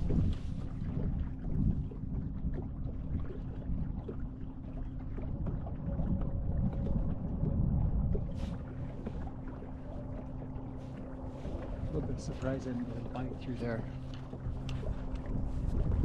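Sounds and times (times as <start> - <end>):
boat motor humming: 0.0 - 16.0
wind and water noise: 0.0 - 16.0.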